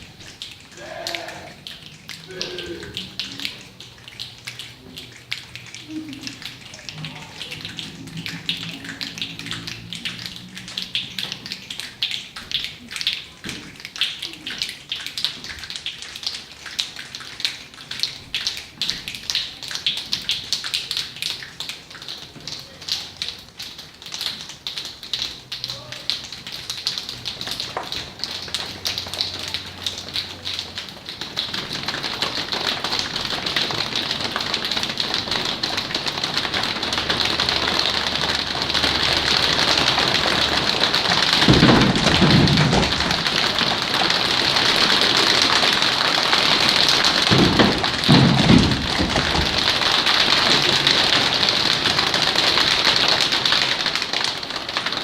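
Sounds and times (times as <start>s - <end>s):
children tapping like rain: 0.0s - 55.0s.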